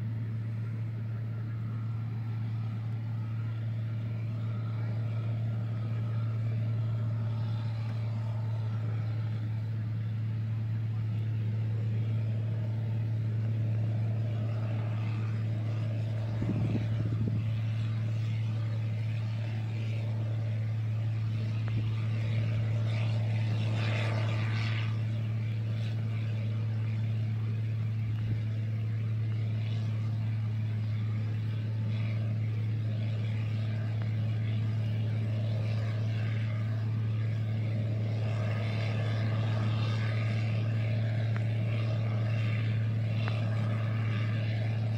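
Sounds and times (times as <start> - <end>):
combine harvester engine droning: 0.0 - 44.9.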